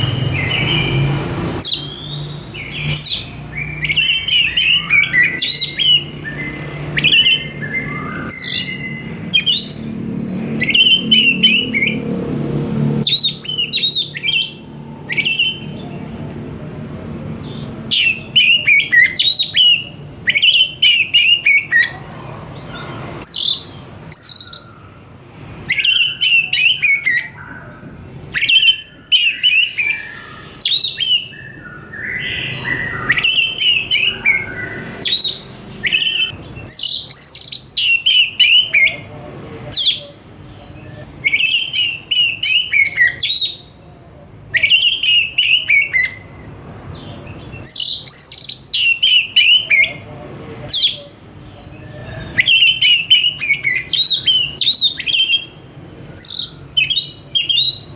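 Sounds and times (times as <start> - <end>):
bird singing whistles and chatter: 0.0 - 12.2, 12.9 - 57.9.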